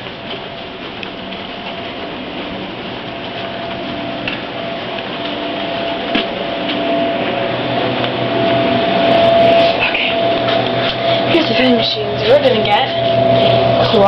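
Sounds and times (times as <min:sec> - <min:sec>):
machine humming with thin whine: 0:00.0 - 0:14.0.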